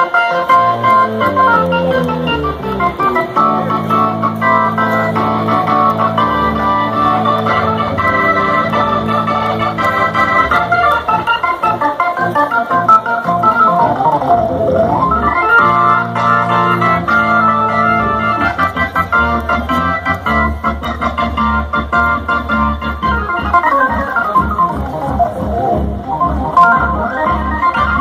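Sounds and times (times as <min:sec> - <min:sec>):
electric organ playing live: 0:00.0 - 0:28.0.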